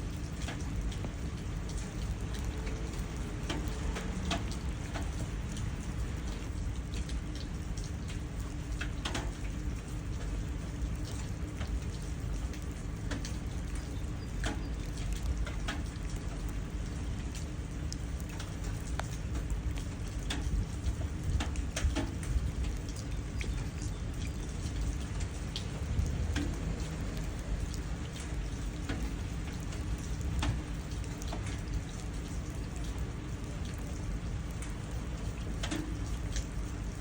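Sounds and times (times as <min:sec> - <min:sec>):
drops splashing into puddles: 0:00.0 - 0:37.0
steady rain: 0:00.0 - 0:37.0.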